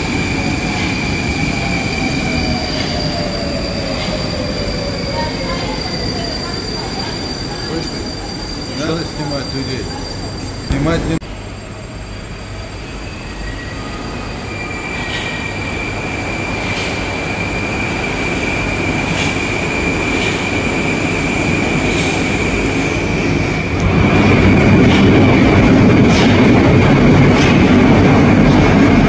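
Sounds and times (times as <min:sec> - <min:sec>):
metro train high whine: 0:00.0 - 0:29.0
train rumble: 0:00.0 - 0:29.0.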